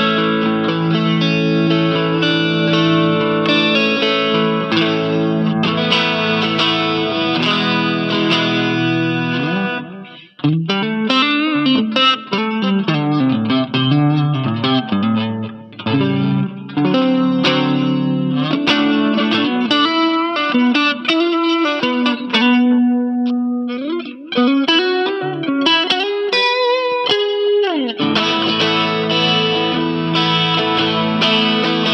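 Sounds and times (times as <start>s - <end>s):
electric guitar playing: 0.0s - 31.9s.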